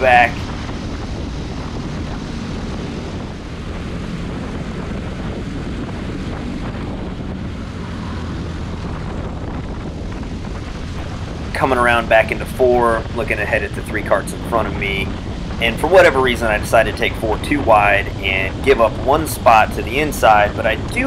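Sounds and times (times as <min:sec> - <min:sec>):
kart engine running: 0:00.0 - 0:21.0
wind buffeting microphone: 0:00.0 - 0:21.0.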